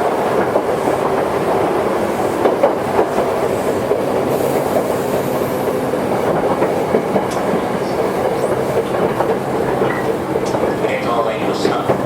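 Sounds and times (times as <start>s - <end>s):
train wheels rumbling on rail: 0.0s - 12.0s
track clicks: 2.3s - 12.0s.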